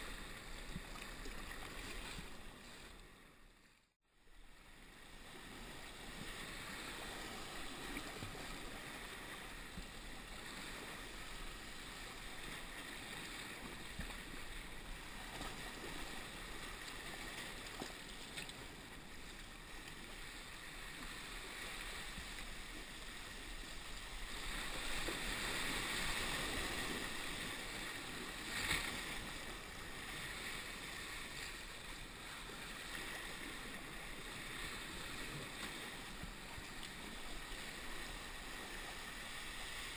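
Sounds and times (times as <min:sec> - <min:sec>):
sea water sloshing and splashing: 0:00.0 - 0:03.3, 0:05.1 - 0:39.9
rush of water: 0:04.3 - 0:39.9.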